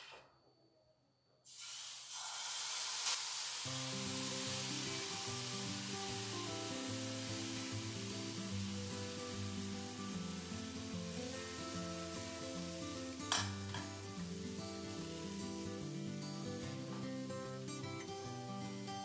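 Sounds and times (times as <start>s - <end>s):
batter sizzling in a frying pan: 1.5s - 19.0s
background music: 3.7s - 19.0s.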